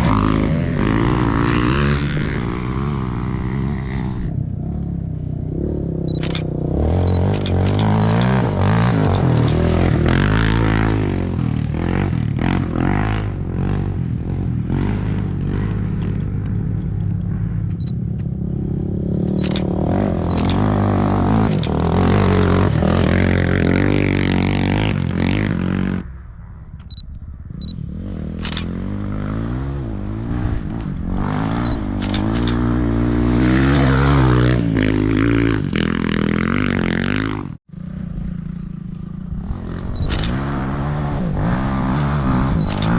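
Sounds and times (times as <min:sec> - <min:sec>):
off-road engines revving hard: 0:00.0 - 0:04.3, 0:05.5 - 0:16.8, 0:18.6 - 0:26.0, 0:27.8 - 0:38.0, 0:39.3 - 0:42.9.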